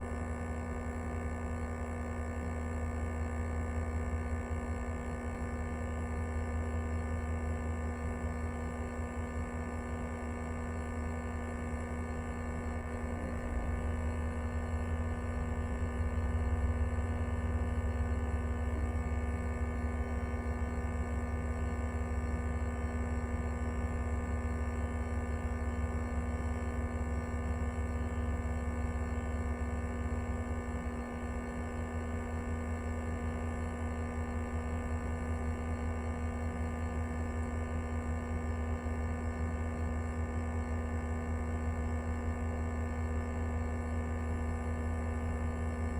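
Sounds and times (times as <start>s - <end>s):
electrical hum: 0.0s - 45.9s.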